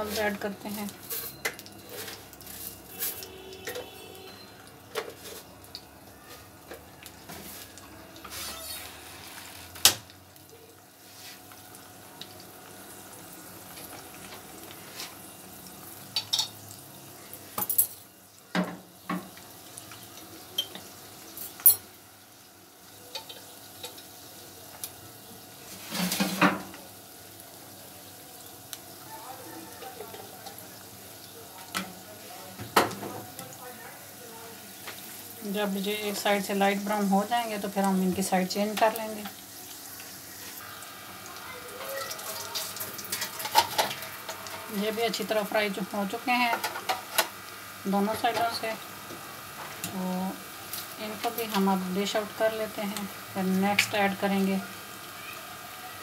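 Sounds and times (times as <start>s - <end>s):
food sizzling in oil: 0.0s - 56.0s.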